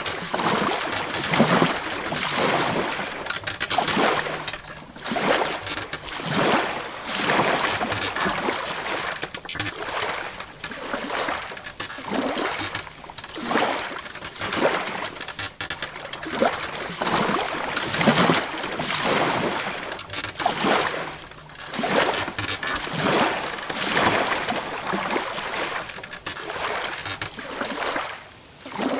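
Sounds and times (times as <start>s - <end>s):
water splashing against wooden hull: 0.0s - 28.9s.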